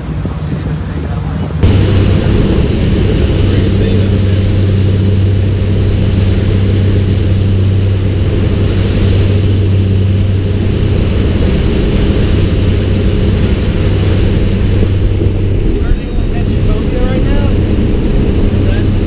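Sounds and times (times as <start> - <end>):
boat engines droning: 0.0 - 19.0
rush of wind and water: 0.0 - 19.0.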